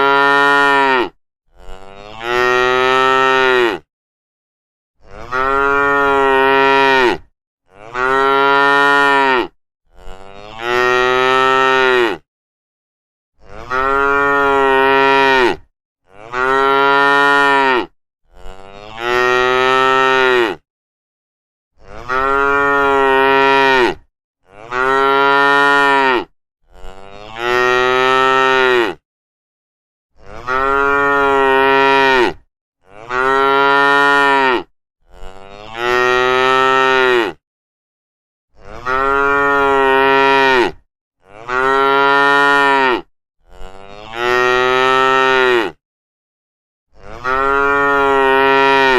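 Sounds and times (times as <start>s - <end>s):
cattle mooing: 0.0s - 3.9s, 5.0s - 12.2s, 13.4s - 20.6s, 21.9s - 29.0s, 30.2s - 37.4s, 38.6s - 45.8s, 47.0s - 48.9s.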